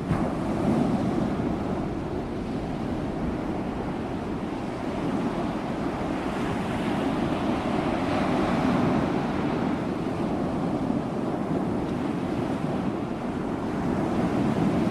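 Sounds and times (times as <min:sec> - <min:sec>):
ocean waves washing onto shore: 0:00.0 - 0:14.9.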